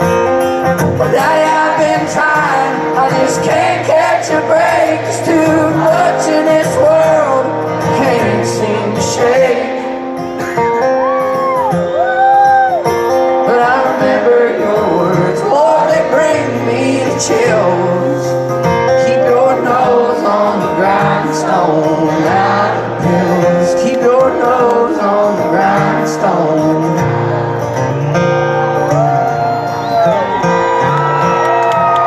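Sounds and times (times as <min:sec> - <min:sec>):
country band playing: 0:00.0 - 0:32.0.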